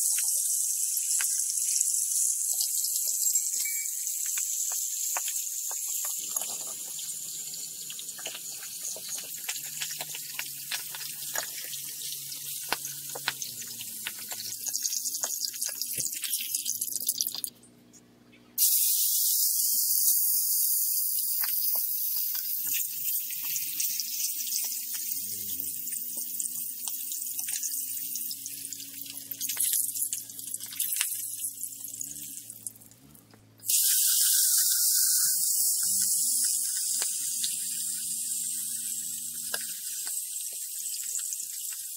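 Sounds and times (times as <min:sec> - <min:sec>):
fish sizzling in hot oil: 0:00.0 - 0:17.5, 0:18.6 - 0:33.0, 0:33.6 - 0:41.9.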